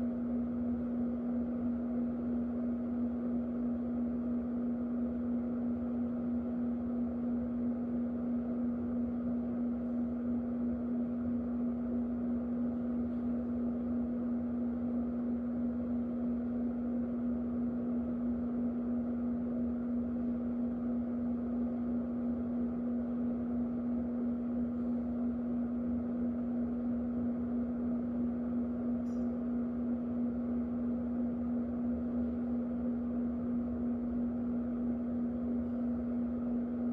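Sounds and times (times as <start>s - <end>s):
electric fan running: 0.0s - 36.9s.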